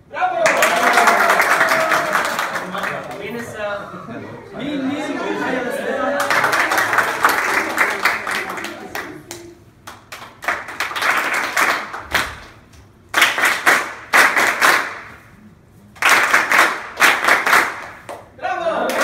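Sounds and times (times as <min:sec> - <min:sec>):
group of people clapping: 0:00.4 - 0:03.5, 0:05.9 - 0:15.3, 0:15.9 - 0:19.0.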